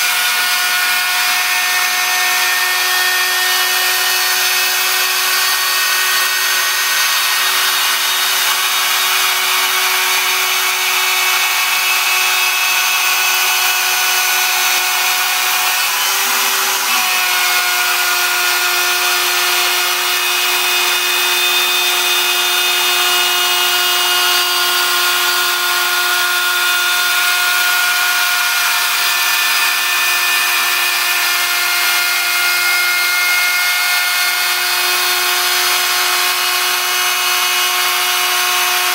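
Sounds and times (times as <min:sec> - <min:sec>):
router cutting noise: 0:00.0 - 0:38.9.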